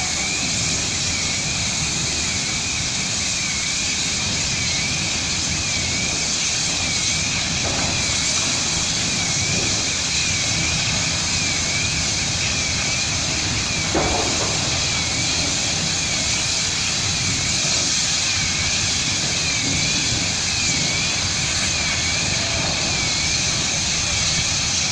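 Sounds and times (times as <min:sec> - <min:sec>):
fire burning with rushing noise: 0:00.0 - 0:24.9.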